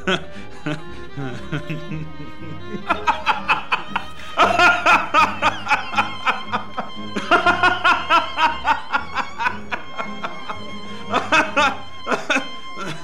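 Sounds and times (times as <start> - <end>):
laughter in rhythmic bursts: 0.0 - 13.0
music with strings: 0.0 - 13.0.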